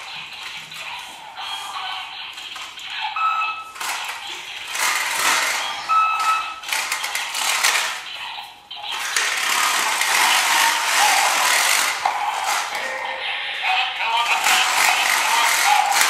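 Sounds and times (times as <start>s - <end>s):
toy mechanism whirring and clicking: 0.0s - 16.0s.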